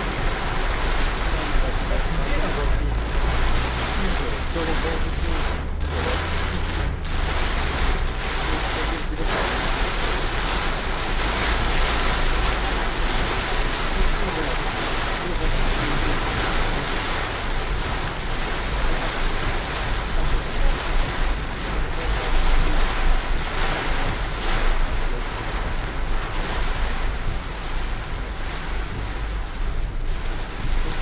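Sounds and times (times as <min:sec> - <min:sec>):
deep rumble: 0:00.0 - 0:31.0
heavy rain: 0:00.0 - 0:31.0
tyres on flooded road: 0:00.0 - 0:31.0.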